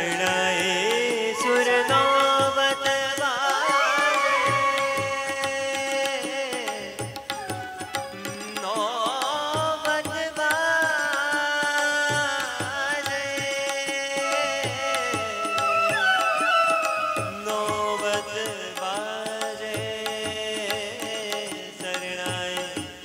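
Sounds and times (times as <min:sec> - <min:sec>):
man singing: 0:00.0 - 0:23.0
tabla beat: 0:00.0 - 0:23.0.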